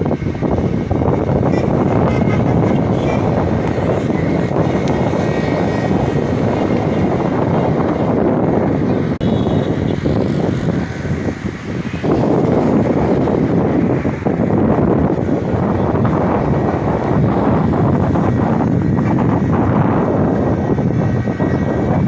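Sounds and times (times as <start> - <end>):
wind blowing on microphone: 0.0 - 22.0.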